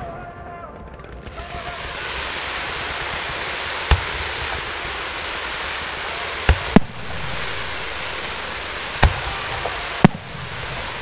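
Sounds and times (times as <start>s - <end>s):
fireworks rushing hiss: 0.0s - 11.0s
fireworks sharp bangs: 0.0s - 11.0s.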